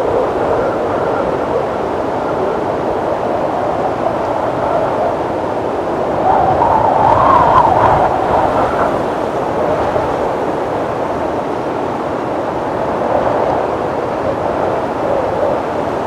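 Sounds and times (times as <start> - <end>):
strong wind whistling: 0.0 - 16.0.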